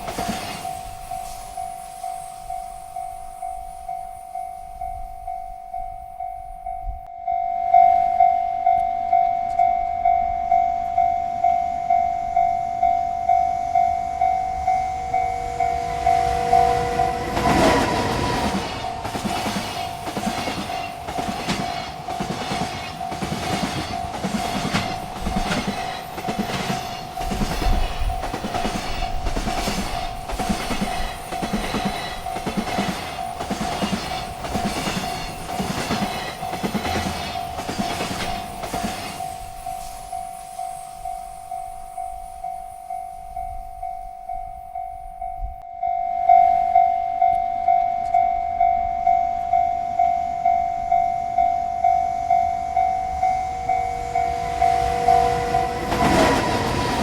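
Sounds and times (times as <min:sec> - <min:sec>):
train wheels clacking on rails: 0:00.0 - 0:07.0, 0:08.7 - 0:45.6, 0:47.2 - 0:57.0
railroad crossing bell ringing: 0:00.0 - 0:57.0.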